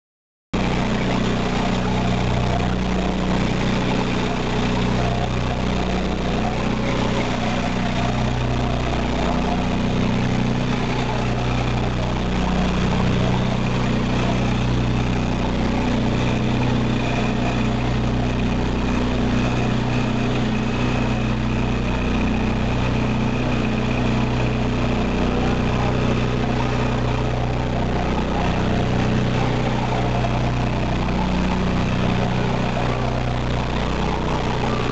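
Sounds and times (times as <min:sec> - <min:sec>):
constant rushing noise: 0:00.6 - 0:34.9
vibrator motors humming: 0:00.6 - 0:34.9.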